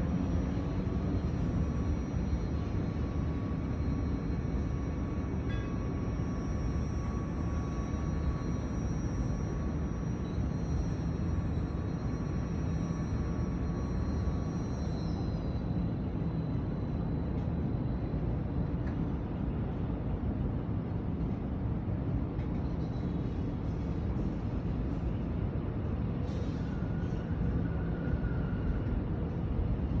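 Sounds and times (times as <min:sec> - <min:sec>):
low rumble of city ambience: 0:00.0 - 0:30.0.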